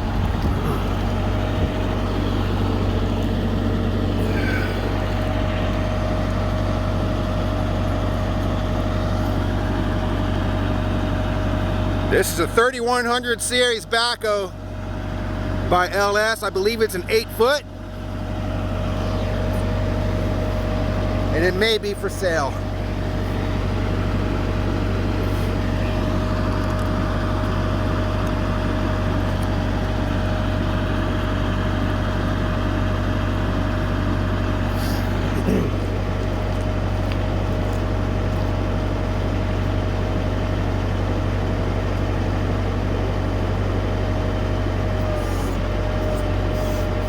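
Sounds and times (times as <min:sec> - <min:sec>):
constant whine: 0:00.0 - 0:47.0
diesel tractor engine running: 0:00.0 - 0:47.0.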